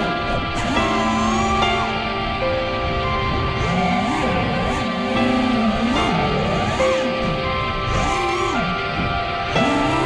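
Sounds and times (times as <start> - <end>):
background music with gliding notes: 0.0 - 10.0.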